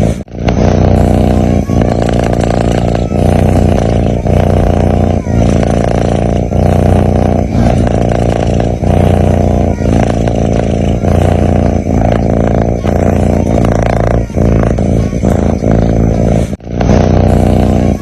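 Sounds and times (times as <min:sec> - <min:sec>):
cat snoring: 0:00.0 - 0:18.0.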